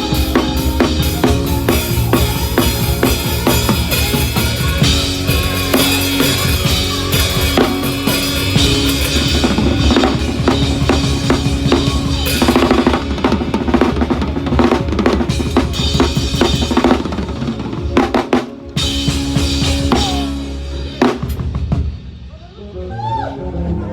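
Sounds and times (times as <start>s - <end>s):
sustained pitched instruments: 0.0s - 22.2s
drum kit playing: 0.0s - 22.6s.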